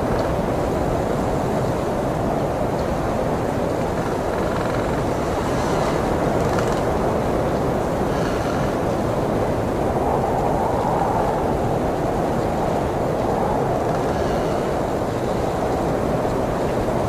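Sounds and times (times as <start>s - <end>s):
blizzard wind rushing: 0.0s - 17.0s.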